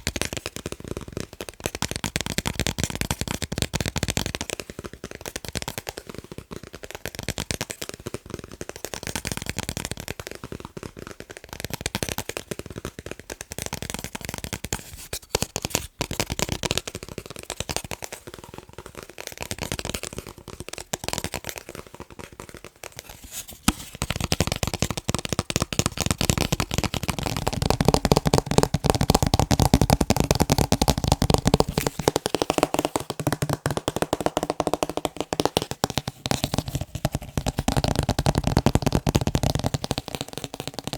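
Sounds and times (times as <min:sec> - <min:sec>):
fast tapping on picture frames: 0:00.0 - 0:40.9.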